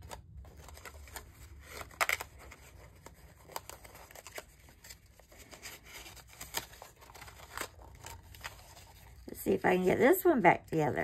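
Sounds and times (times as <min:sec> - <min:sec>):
paper rustling and crinkling: 0:00.0 - 0:10.2.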